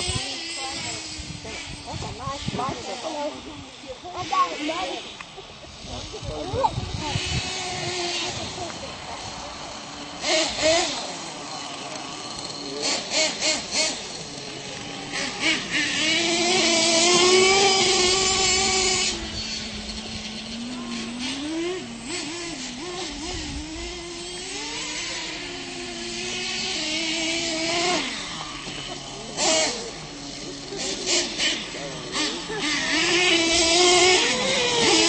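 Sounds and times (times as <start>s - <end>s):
toy truck motors revving: 0.0s - 35.0s.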